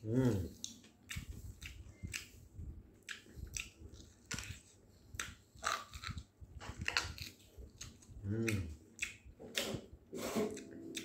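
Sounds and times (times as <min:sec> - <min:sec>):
person chewing with mouth clicks: 0:00.1 - 0:02.4, 0:03.0 - 0:11.0.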